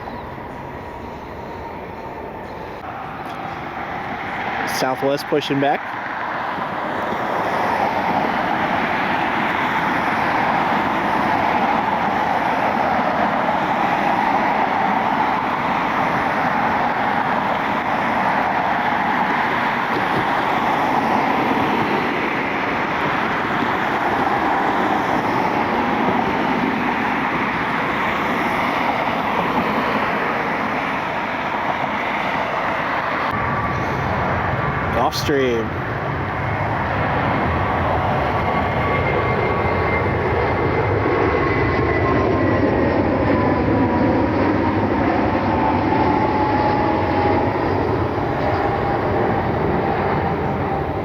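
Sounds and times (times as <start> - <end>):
jet engine roar: 0.0 - 51.0.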